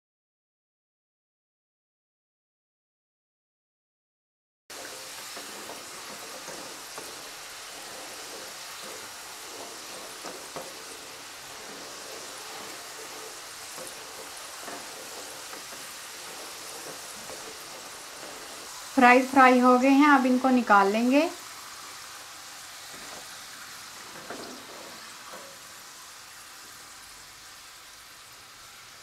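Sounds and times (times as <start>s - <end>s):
food deep-frying in oil: 4.7s - 29.0s.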